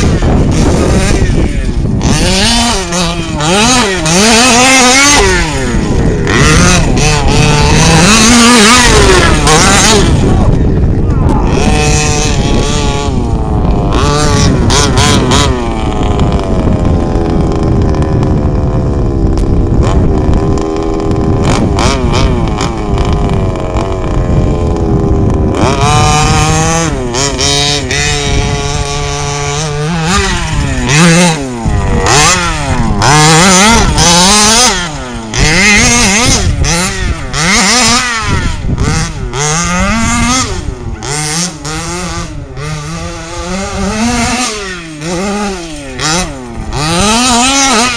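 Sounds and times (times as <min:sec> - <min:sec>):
radio-controlled car engine revving: 0:00.0 - 0:47.9.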